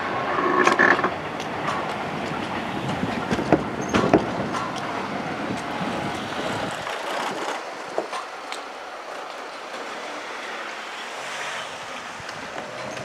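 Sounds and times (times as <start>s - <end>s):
electric train running past: 0.0s - 13.0s
train wheels clacking over rail joints: 0.0s - 13.0s.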